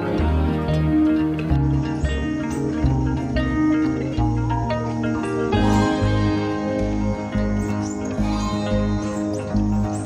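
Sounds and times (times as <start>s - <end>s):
plucked strings music with low beat: 0.0s - 10.0s.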